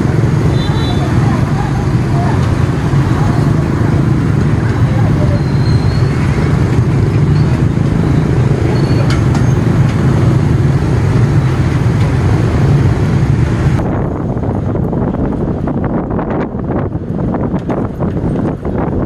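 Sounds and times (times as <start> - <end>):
motorbike and scooter engines: 0.0 - 19.0
wind on microphone: 0.0 - 19.0.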